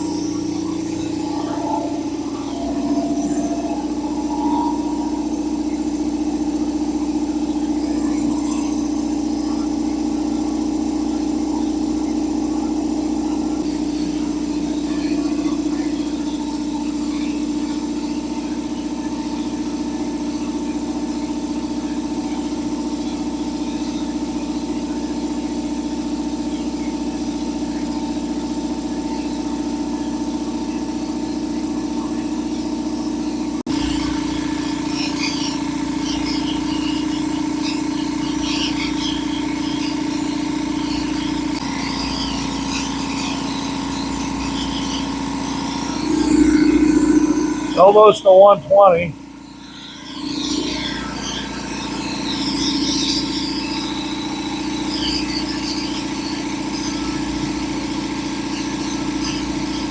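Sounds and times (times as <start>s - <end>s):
air compressor humming: 0.0s - 59.9s.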